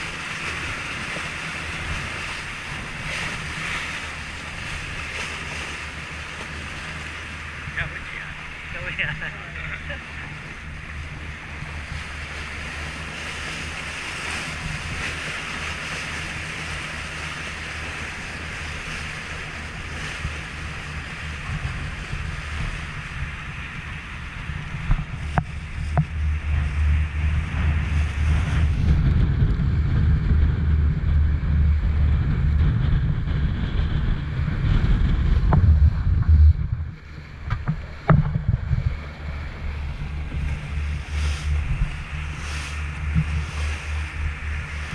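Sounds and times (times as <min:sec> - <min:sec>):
motorboat running fast: 0:00.0 - 0:44.9
water rushing along hull: 0:00.0 - 0:44.9
wind buffeting microphone: 0:00.0 - 0:44.9.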